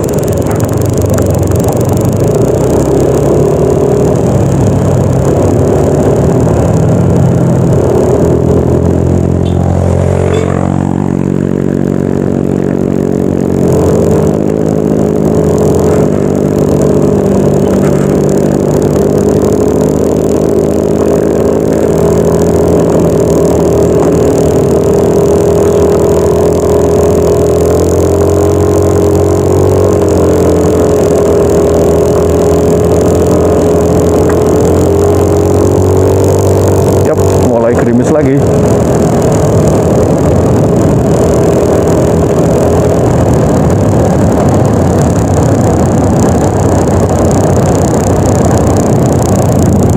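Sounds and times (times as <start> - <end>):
scooter engine running: 0.0 - 49.9.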